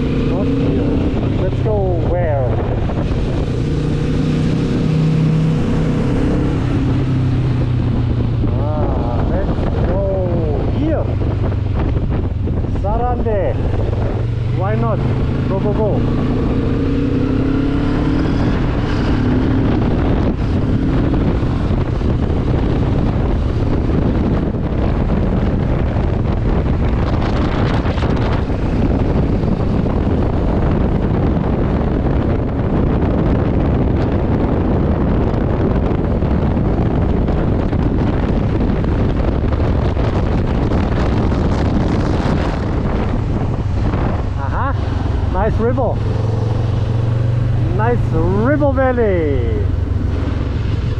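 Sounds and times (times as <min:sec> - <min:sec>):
motorcycle engine accelerating: 0:00.0 - 0:50.9
wind rushing on microphone: 0:00.0 - 0:50.9.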